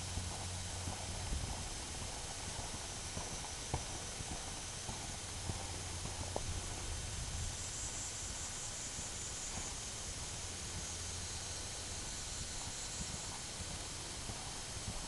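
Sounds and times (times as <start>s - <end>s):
background hiss: 0.0s - 15.0s
horse hoofbeats on grass: 0.0s - 15.0s.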